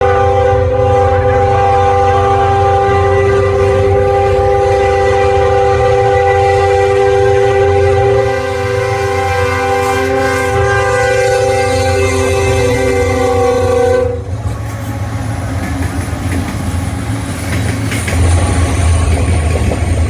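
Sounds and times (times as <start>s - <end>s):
locomotive horn blast: 0.0s - 19.3s
train rumbling: 0.0s - 20.0s.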